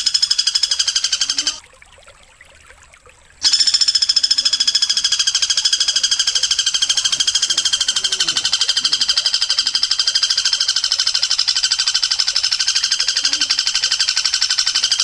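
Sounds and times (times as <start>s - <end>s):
high-pitched bird trill: 0.0s - 1.6s, 3.4s - 15.0s.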